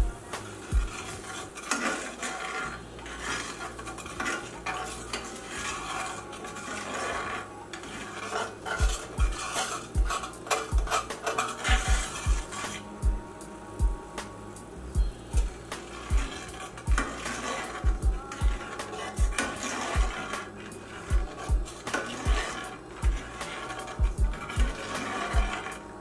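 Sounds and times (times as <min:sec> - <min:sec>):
metal spoon scraping skillet: 0:00.0 - 0:26.0.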